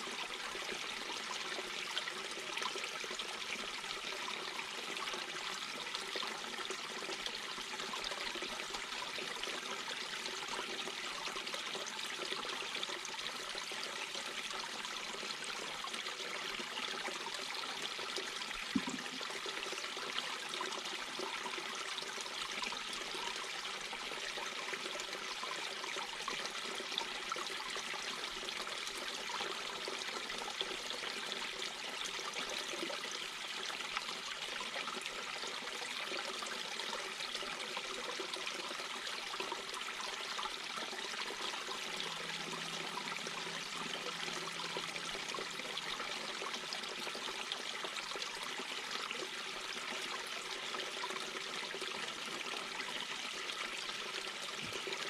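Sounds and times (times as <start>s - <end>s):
brook babbling over stones: 0.0s - 55.0s.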